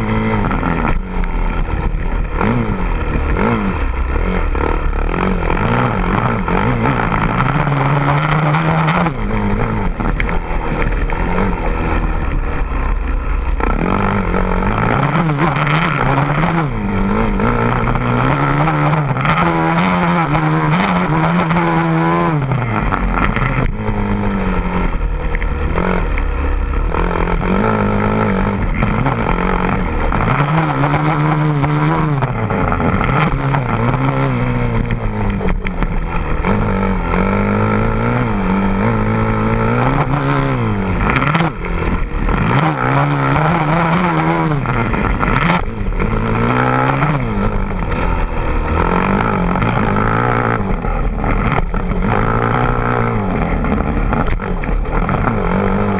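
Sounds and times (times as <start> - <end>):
vehicle engine revving: 0.0 - 55.9.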